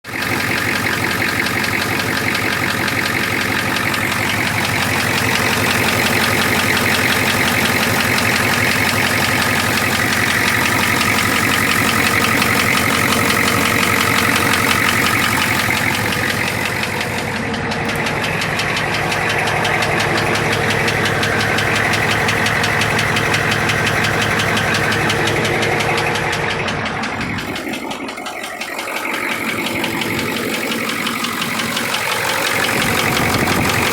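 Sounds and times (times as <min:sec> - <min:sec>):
diesel engine idling with knock: 0:00.0 - 0:33.9.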